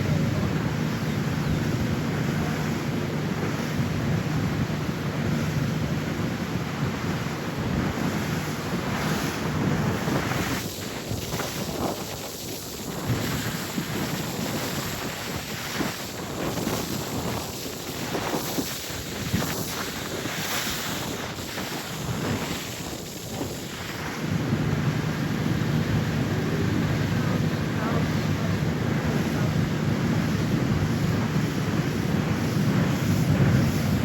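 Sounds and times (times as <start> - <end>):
water rushing past boat: 0.0 - 34.0
wind buffeting microphone: 0.0 - 34.0.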